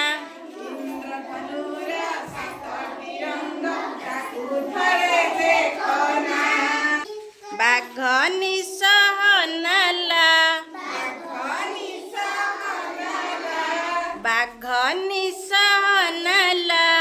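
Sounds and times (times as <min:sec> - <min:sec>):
young children singing: 0:00.0 - 0:14.3.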